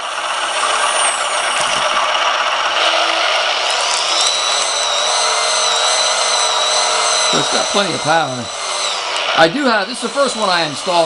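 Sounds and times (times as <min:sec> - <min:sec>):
electric actuator motor whirring: 0:00.0 - 0:11.0.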